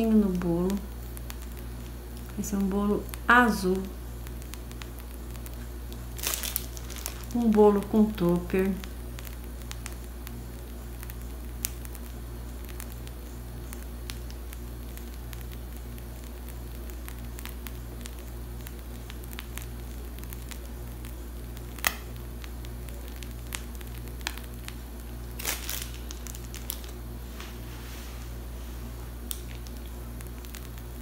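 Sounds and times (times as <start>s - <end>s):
cream piping squishes: 0.0s - 31.0s
low hum with pulsing throb: 0.0s - 31.0s
short crackle: 0.0s - 31.0s.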